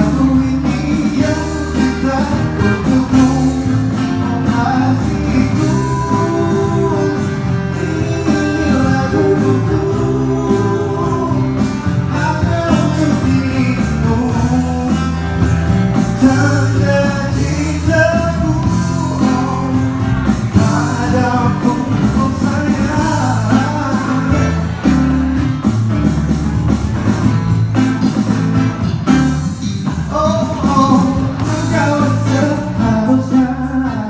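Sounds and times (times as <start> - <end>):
man singing into microphone: 0.0 - 25.0, 29.9 - 34.0
strummed acoustic guitar: 0.0 - 34.0.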